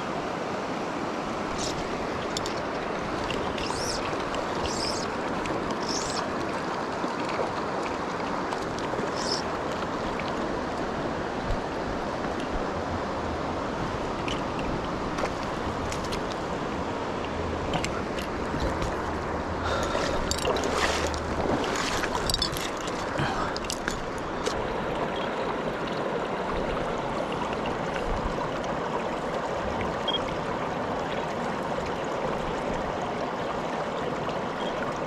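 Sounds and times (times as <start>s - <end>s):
water rushing over rocks: 0.0s - 35.0s.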